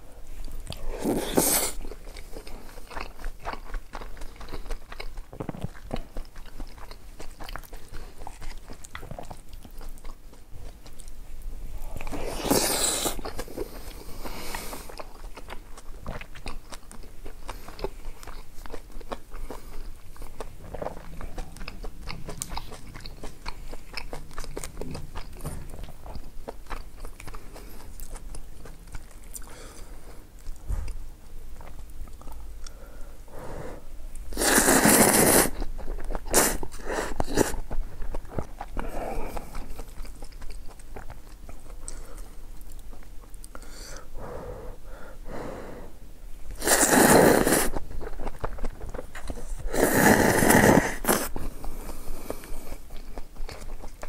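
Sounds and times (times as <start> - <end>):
chewing and biting food: 0.4 - 32.8, 34.2 - 43.7, 46.5 - 54.0.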